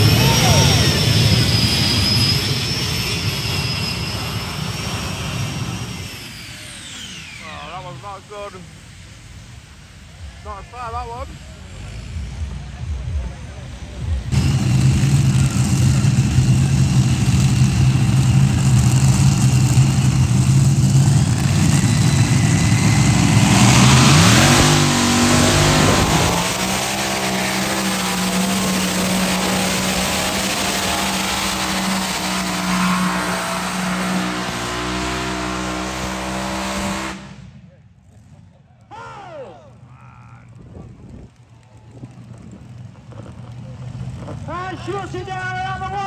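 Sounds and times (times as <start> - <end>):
tractor engine revving: 0.0 - 9.0, 9.8 - 38.6.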